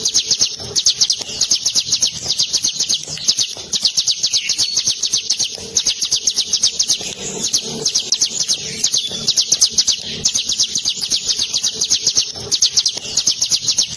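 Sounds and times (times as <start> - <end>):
bird singing rolling song: 0.0 - 13.9.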